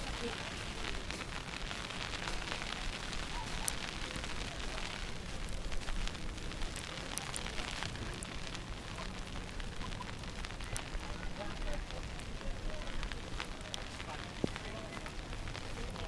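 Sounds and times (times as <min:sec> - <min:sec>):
small irregular crackles: 0:00.0 - 0:16.0
steady noisy hiss: 0:00.0 - 0:16.0.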